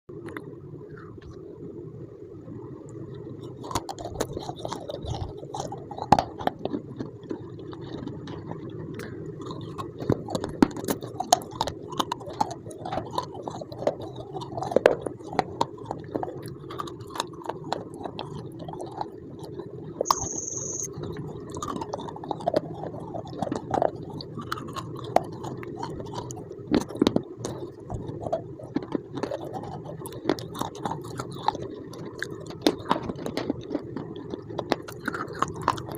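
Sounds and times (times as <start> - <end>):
person chewing crunchy food: 3.4 - 35.9.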